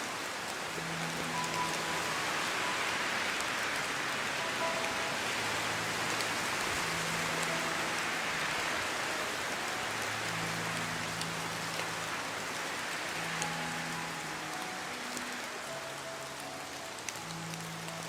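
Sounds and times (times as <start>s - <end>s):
rain falling on a surface: 0.0s - 18.0s
raindrop ticks: 0.0s - 18.0s.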